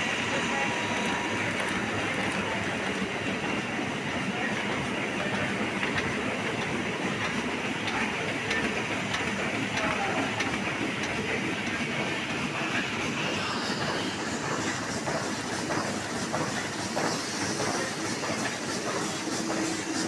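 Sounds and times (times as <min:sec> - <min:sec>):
printing press clattering: 0:00.0 - 0:20.0.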